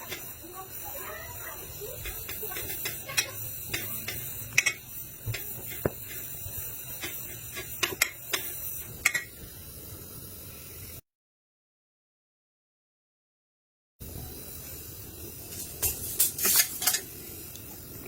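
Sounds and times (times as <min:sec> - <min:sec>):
steady hiss: 0:00.0 - 0:11.0, 0:14.0 - 0:18.0.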